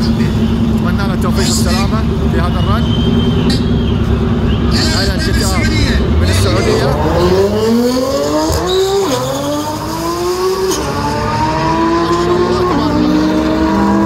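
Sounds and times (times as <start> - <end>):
car engines accelerating: 0.0 - 14.0.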